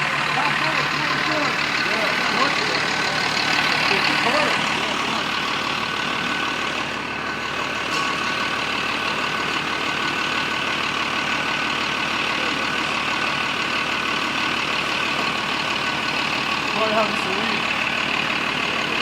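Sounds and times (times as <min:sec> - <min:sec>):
diesel engine idling with clatter: 0:00.0 - 0:19.0.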